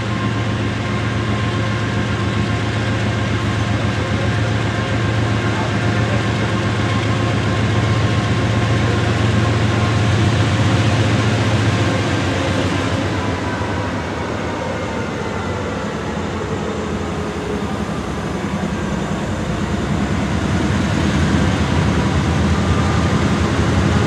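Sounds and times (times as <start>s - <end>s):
diesel locomotive engine droning: 0.0s - 24.0s.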